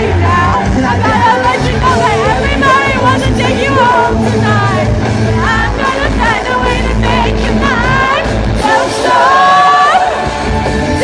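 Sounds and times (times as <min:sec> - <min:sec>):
bass: 0:00.0 - 0:11.0
drums: 0:00.0 - 0:11.0
electric guitars: 0:00.0 - 0:11.0.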